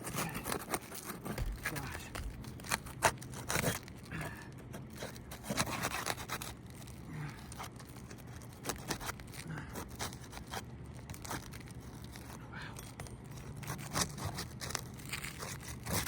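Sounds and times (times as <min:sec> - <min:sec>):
roof shingles scraping and cracking: 0:00.0 - 0:12.4, 0:13.3 - 0:16.0.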